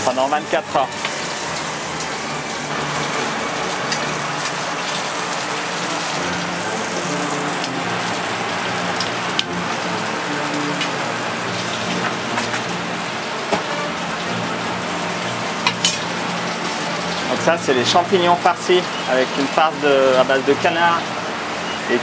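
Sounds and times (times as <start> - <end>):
mushrooms sizzling in oil: 0.0 - 22.0.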